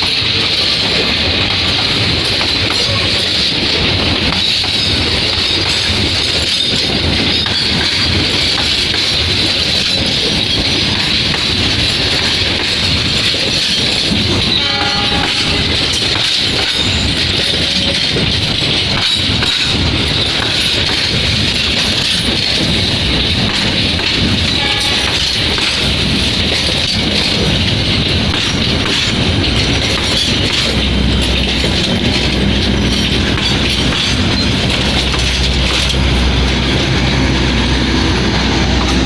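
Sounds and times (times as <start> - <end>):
clicks of train wheels: 0.0 - 39.0
train wheels rumbling on rails: 0.0 - 39.0.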